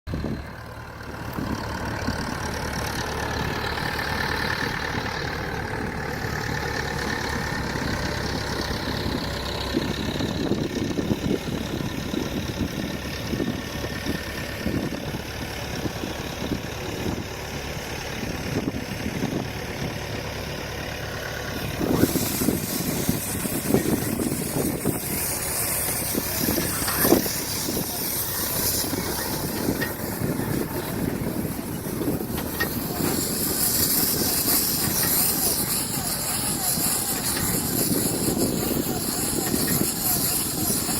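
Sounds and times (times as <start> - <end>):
tractor engine running: 0.1 - 40.9.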